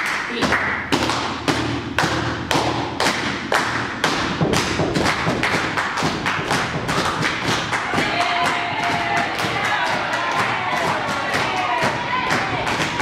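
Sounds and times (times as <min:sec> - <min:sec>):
people clapping hands: 0:00.0 - 0:13.0.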